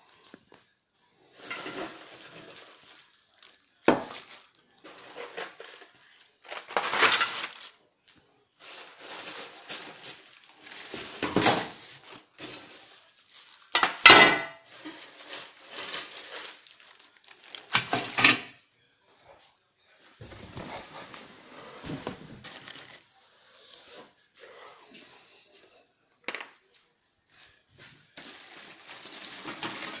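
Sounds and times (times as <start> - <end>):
plastic wrapping rustling: 0.0 - 18.6, 20.1 - 23.2, 27.3 - 30.0.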